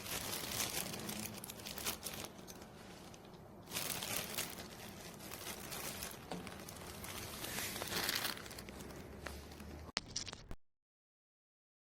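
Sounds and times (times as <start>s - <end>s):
rustling and crinkling: 0.0s - 10.6s.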